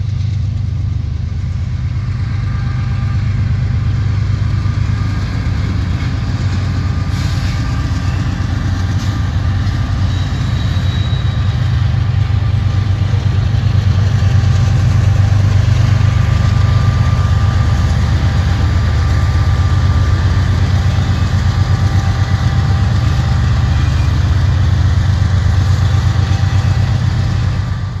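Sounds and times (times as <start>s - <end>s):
diesel locomotive engines droning: 0.0s - 28.0s.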